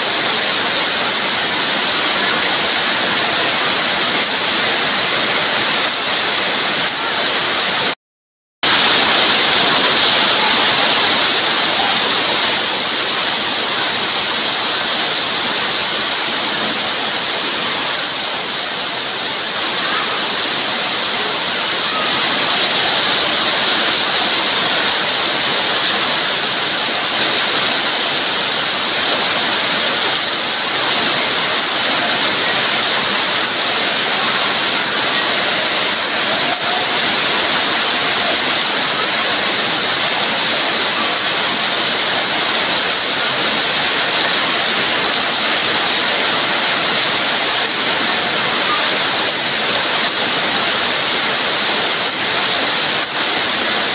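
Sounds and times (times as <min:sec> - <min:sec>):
heavy rain pouring: 0:00.0 - 0:08.0, 0:08.6 - 0:53.9.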